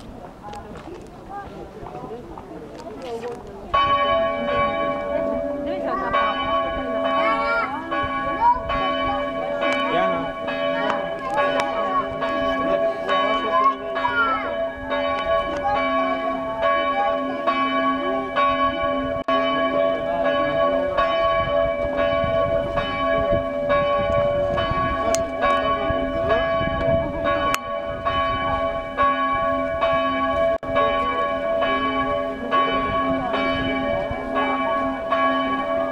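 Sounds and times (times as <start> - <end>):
church bells ringing: 3.6 - 35.9.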